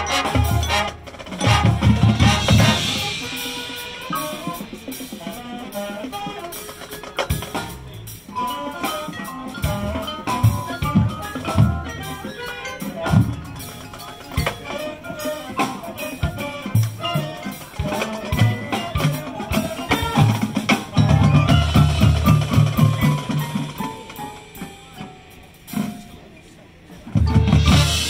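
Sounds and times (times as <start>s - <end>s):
drums: 0.0s - 28.0s
marching band playing: 0.0s - 28.0s
marimbas and vibraphones: 0.0s - 28.0s.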